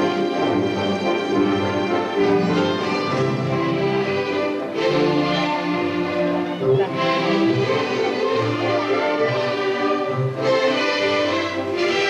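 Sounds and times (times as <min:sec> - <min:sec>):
orchestral string music: 0:00.0 - 0:12.0.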